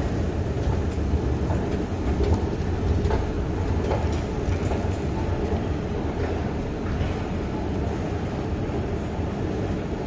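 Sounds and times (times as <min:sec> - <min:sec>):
low mechanical rumble: 0:00.0 - 0:09.3.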